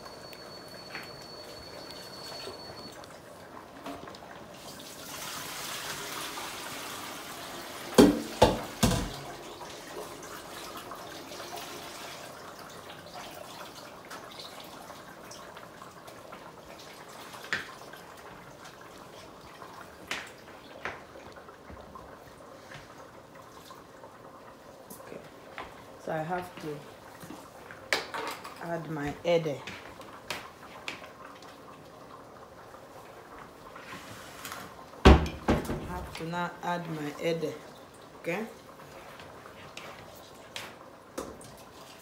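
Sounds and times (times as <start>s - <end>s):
soup bubbling in a pot: 0.0s - 28.6s, 29.6s - 42.0s.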